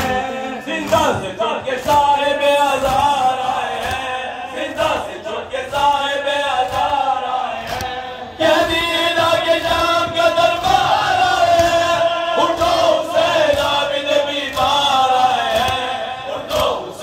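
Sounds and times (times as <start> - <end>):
amplified lead reciter singing: 0.0 - 17.0
men chanting in unison: 0.0 - 17.0.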